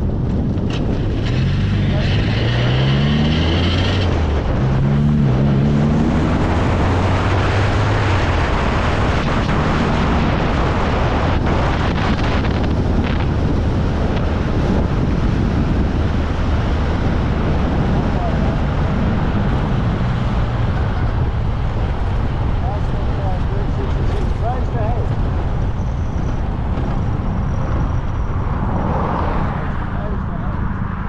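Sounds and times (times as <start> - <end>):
car engine drone: 0.0 - 31.0
road and wind noise in car: 0.0 - 31.0.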